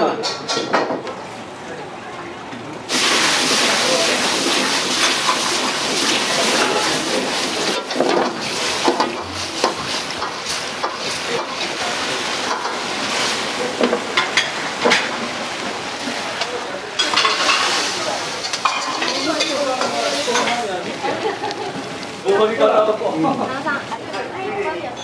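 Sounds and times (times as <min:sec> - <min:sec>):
wok hissing and sizzling: 0:02.9 - 0:24.8.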